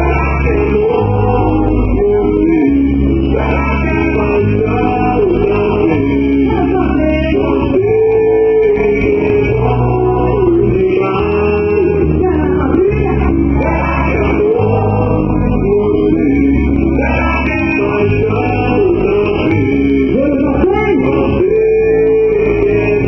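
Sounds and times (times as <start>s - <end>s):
band accompaniment with bass: 0.0s - 23.0s
person singing: 0.0s - 23.0s.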